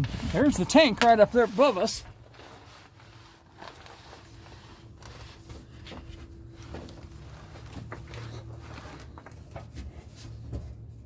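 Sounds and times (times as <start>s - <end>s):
low steady hum: 0.0s - 11.0s
rustling on cardboard: 0.0s - 11.0s.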